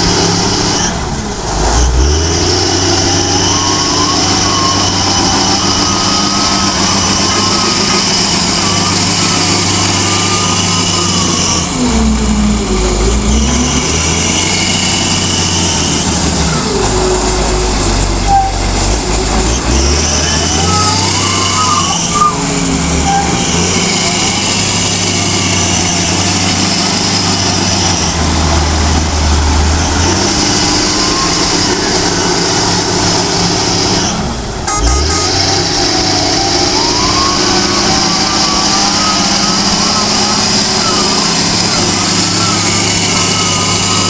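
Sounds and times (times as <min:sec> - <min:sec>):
wheel loader engine revving: 0:00.0 - 0:44.0.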